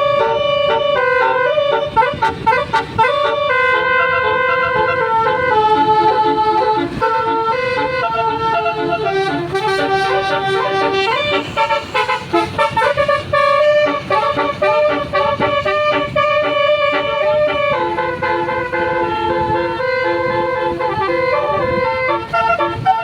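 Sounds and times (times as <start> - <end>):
low hum of bus engine: 0.0 - 23.0
multi-tone bus horn melody: 0.0 - 23.0.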